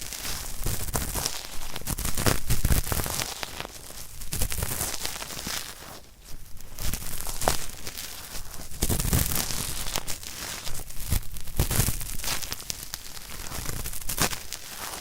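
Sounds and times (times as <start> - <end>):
cotton swab scratching microphone: 0.0 - 15.0.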